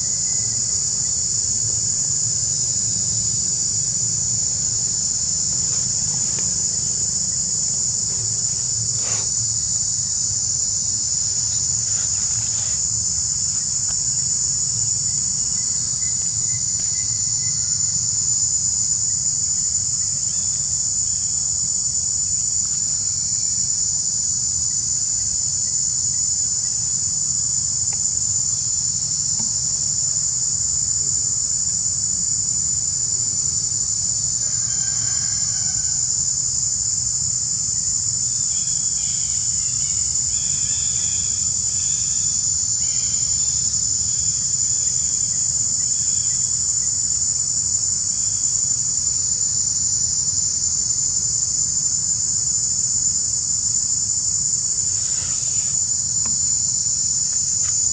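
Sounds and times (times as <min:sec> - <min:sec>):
insect chorus shrilling: 0:00.0 - 0:18.4, 0:19.5 - 0:21.9, 0:32.2 - 0:57.9.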